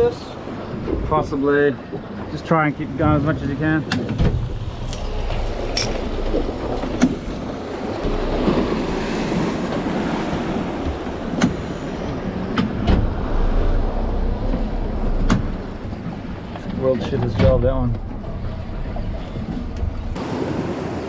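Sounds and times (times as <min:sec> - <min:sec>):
sea washing: 0:00.0 - 0:21.0
wind buffeting microphone: 0:00.0 - 0:21.0.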